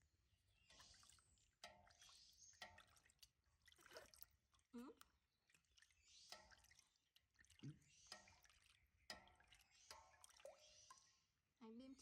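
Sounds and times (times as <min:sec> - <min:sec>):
faint splashing bathwater: 0:00.7 - 0:11.4.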